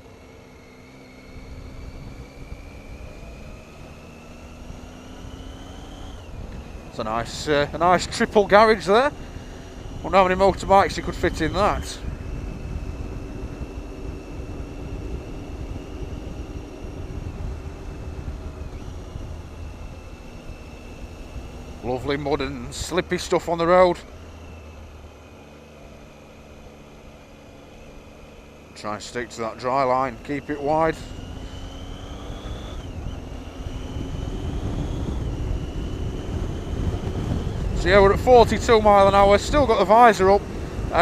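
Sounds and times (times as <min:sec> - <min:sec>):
motorcycle engine running: 0:00.0 - 0:41.0
thin high whine: 0:00.0 - 0:41.0
wind rumble: 0:01.2 - 0:25.1, 0:25.9 - 0:41.0.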